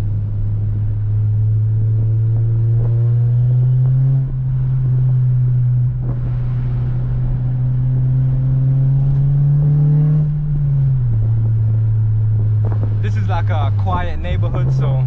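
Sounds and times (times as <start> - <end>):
car engine and exhaust: 0.0 - 15.0.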